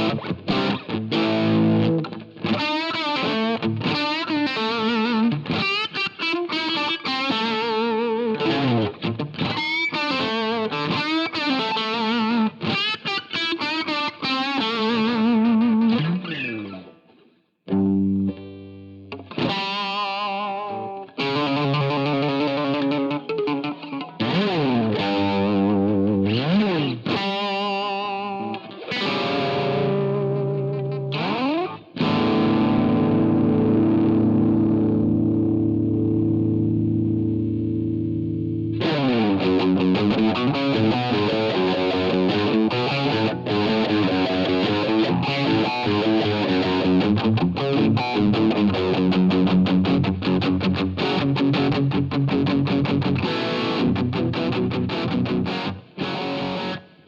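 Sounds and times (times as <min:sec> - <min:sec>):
overdriven electric guitar lead: 0:00.0 - 0:57.0.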